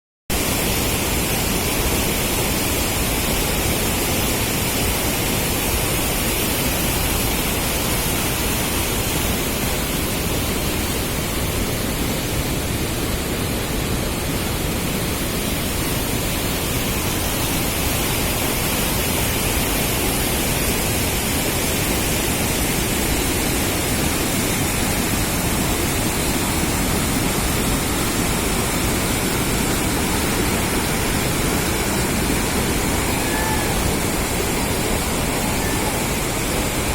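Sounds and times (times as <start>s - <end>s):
waterfall roaring: 0.3s - 36.9s.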